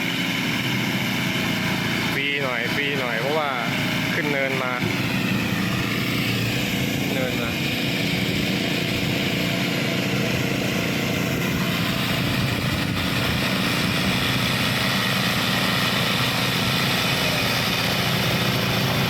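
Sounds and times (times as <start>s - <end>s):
mower engine running under load: 0.0s - 19.0s.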